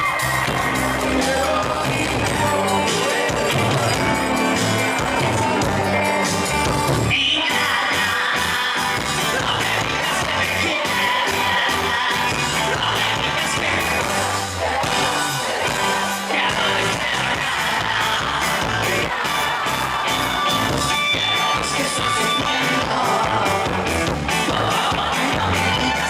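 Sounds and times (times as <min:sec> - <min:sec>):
band music with singing: 0:00.0 - 0:26.0.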